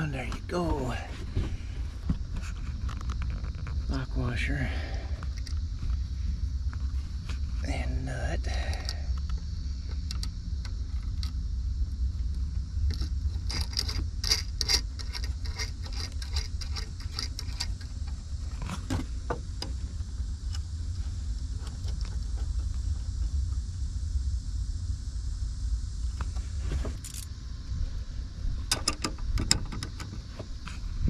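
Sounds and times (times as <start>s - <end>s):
low rumble: 0.0s - 29.4s, 30.2s - 31.0s.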